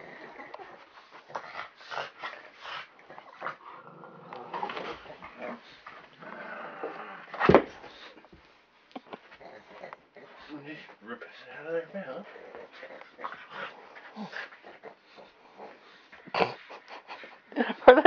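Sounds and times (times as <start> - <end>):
dogs growling: 0.0 - 8.2, 9.0 - 18.0.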